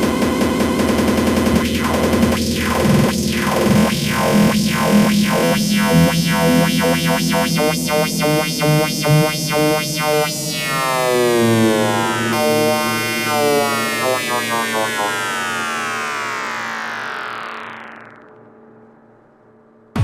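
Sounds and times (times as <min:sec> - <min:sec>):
repeating synthesizer stab: 0:00.0 - 0:18.3
falling pitch sweep: 0:00.0 - 0:19.2.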